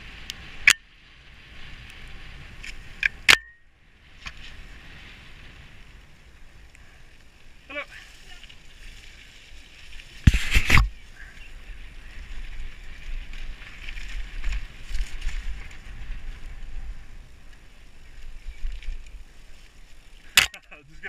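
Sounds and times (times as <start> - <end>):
bike tyres and frame rattling: 0.0 - 21.0
wind buffeting microphone: 0.0 - 21.0.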